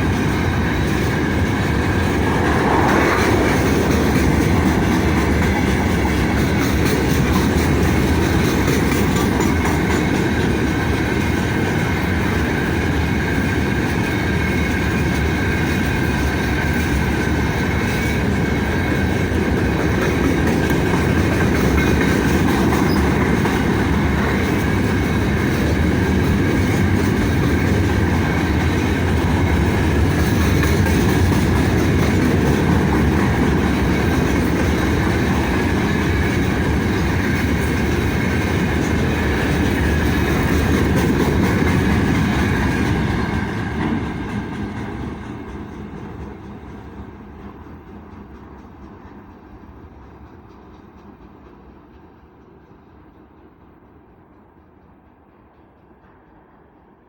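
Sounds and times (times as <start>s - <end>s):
freight train rumbling past: 0.0s - 57.0s
wheels clickety-clack: 0.0s - 57.0s.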